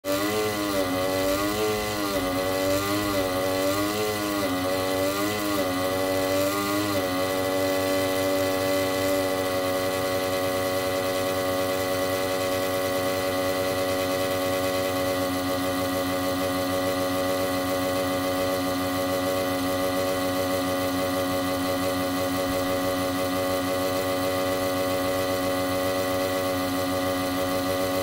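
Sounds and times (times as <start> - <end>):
cooling fan droning buzz: 0.1 - 28.0.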